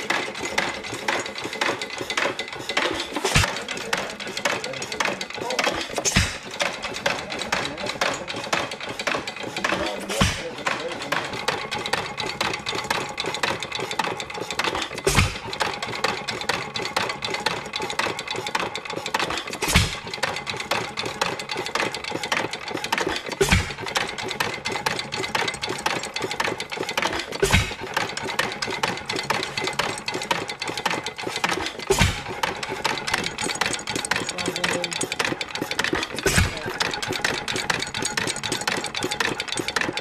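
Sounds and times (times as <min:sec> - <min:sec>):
valve gear clicking: 0:00.0 - 0:40.0.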